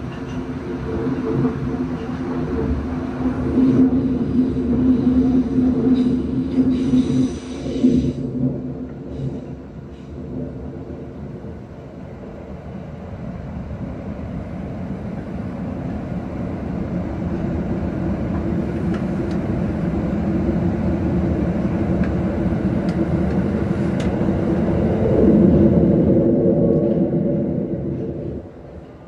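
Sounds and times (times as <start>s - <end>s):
subway train rumbling in tunnel: 0.0s - 29.0s.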